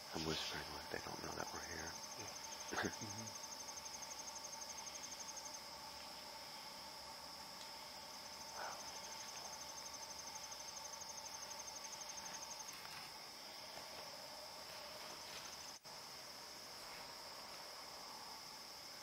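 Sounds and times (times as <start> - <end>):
crickets chirring: 0.0 - 19.0
fast pulsing insect trill: 0.0 - 19.0
low insect drone: 0.0 - 19.0.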